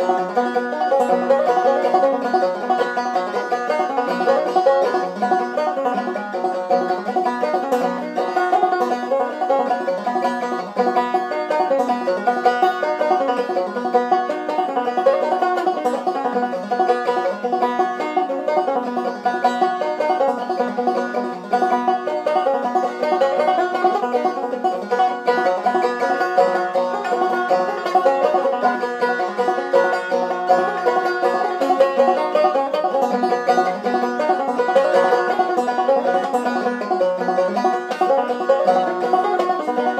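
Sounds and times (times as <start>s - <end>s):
banjo plucked and brushed: 0.0s - 39.9s.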